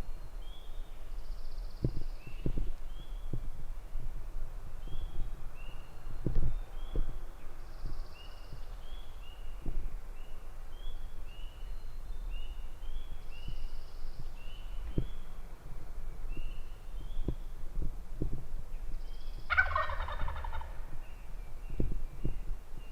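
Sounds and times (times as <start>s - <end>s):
small birds singing: 0.0s - 4.1s, 4.8s - 17.6s, 18.6s - 22.9s.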